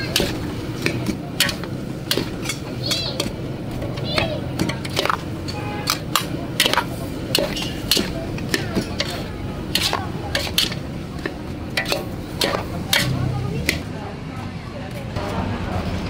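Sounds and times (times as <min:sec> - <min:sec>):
metal spatula scraping a wok: 0:00.0 - 0:13.8.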